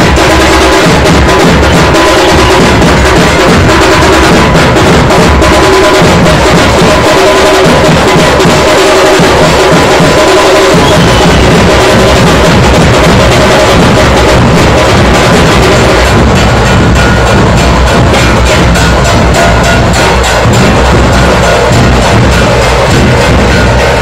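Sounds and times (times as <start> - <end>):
deep drum beats: 0.0 - 24.0
sharp rapid drum strokes: 0.0 - 24.0.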